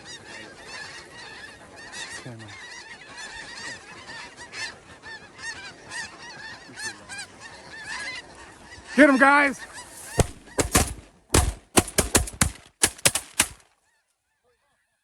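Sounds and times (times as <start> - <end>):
geese honking: 0.4 - 13.6.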